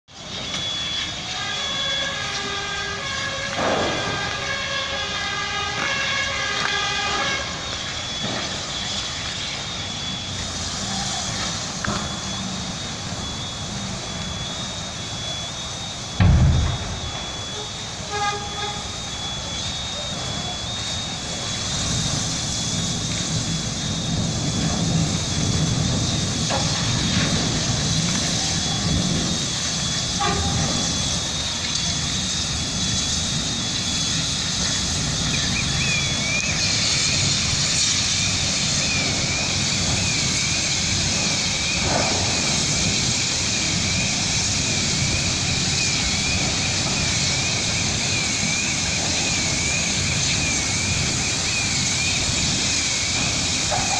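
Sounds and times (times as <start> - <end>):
fire popping: 0.1 - 53.9
fire roaring: 0.1 - 53.9
warbling alarm tone: 0.1 - 53.9.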